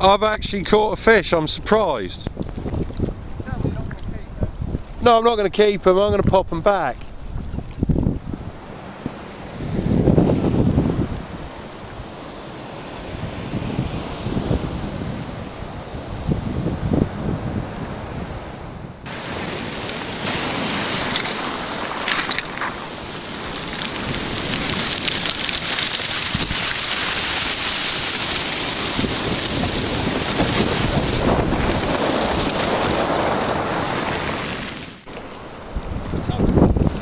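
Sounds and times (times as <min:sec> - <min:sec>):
sea surf breaking: 0:00.0 - 0:37.0
wind rumbling on microphone: 0:00.0 - 0:37.0.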